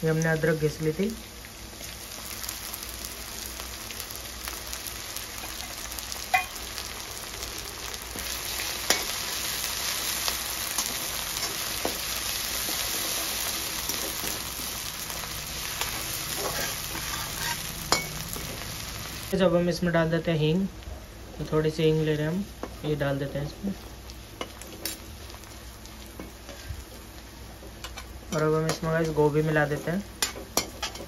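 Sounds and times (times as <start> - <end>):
spices sizzling in hot oil: 0.0 - 31.0.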